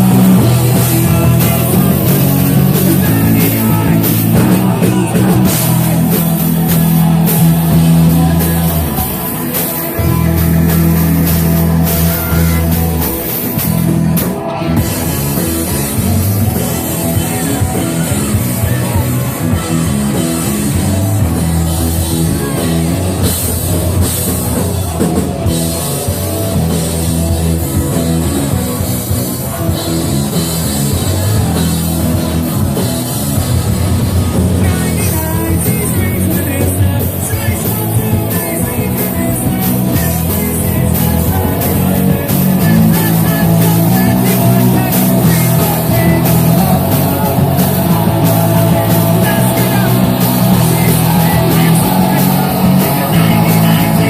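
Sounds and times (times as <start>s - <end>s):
person singing: 0.0s - 33.6s, 34.3s - 54.0s
drum kit: 0.0s - 54.0s
electric guitar: 0.0s - 54.0s.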